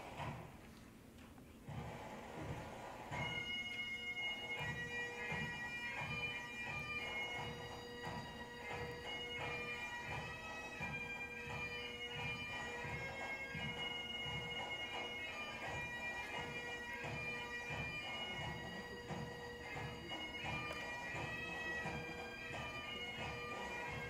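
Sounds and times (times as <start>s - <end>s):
bagpipe music: 2.4s - 24.0s.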